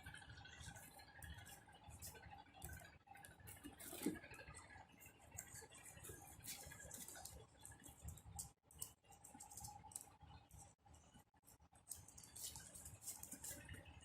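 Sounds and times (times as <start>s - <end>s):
faint clicks and taps: 0.0s - 14.0s.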